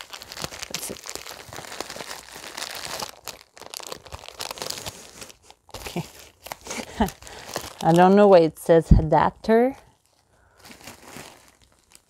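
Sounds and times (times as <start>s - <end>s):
package wrapping crinkling: 0.0s - 8.4s, 9.5s - 12.0s.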